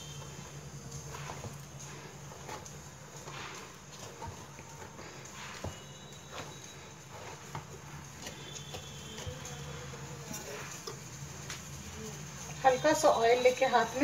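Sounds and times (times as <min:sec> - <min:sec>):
hands kneading dough: 0:00.0 - 0:14.0.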